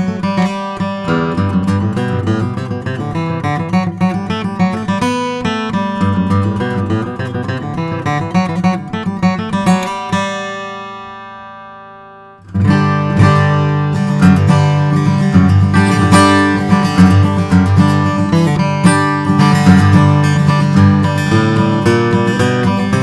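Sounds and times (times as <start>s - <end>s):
acoustic guitar picking: 0.0s - 23.0s
acoustic guitar strumming: 0.0s - 23.0s.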